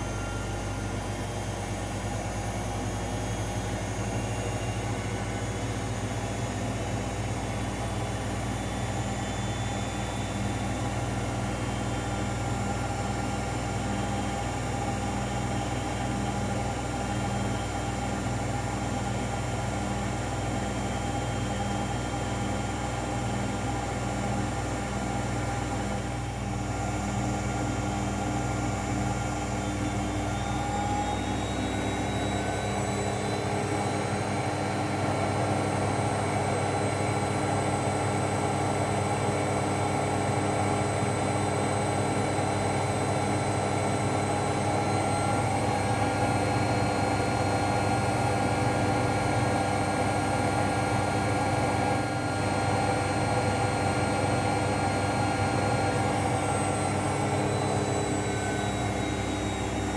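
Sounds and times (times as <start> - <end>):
washing machine spinning: 4.8 - 59.9.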